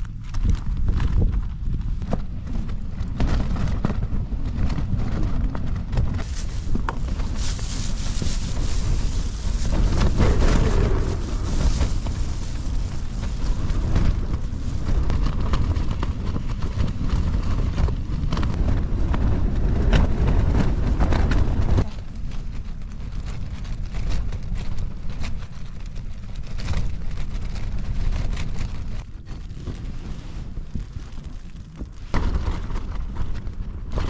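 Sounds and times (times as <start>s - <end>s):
heavy low rumble: 0.0s - 34.0s
tent fabric flapping: 0.0s - 34.0s
wind gusting on microphone: 0.0s - 34.0s.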